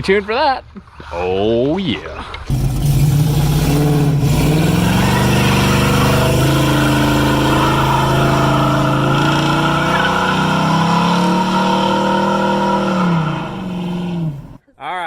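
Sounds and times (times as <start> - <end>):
car engine at high revs: 2.5 - 14.6.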